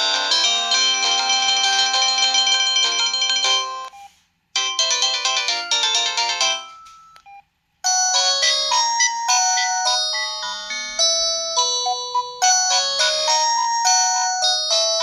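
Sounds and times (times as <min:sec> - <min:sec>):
polyphonic phone ringtones: 0:00.0 - 0:15.0.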